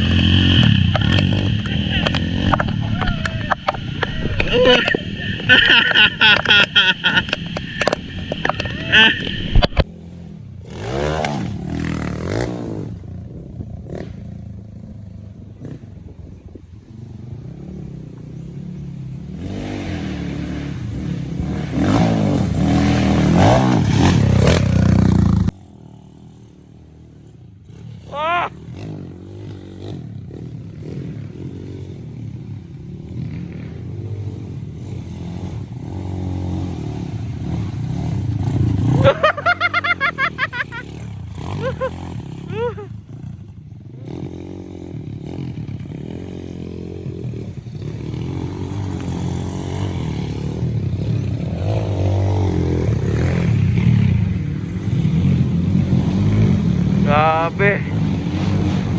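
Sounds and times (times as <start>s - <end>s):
motorcycle engines revving: 0.0s - 58.9s.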